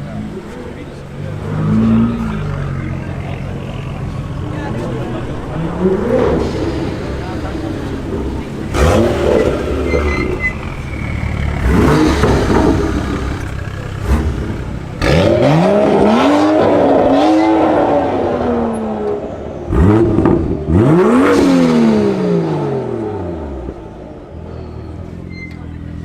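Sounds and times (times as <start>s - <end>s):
car engine revving: 0.0s - 25.1s.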